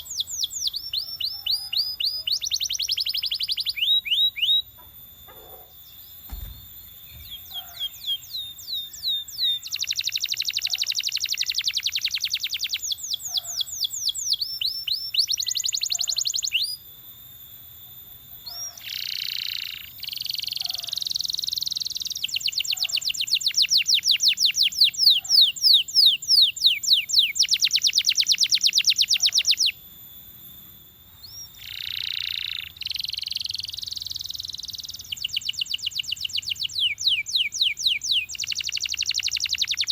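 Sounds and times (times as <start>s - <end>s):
canary singing trills: 0.0s - 16.8s, 18.1s - 39.9s.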